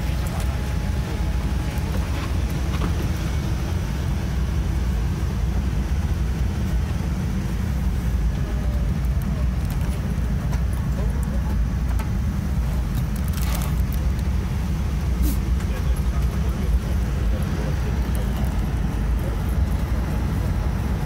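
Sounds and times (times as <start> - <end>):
cabin air system rumble: 0.0 - 21.0.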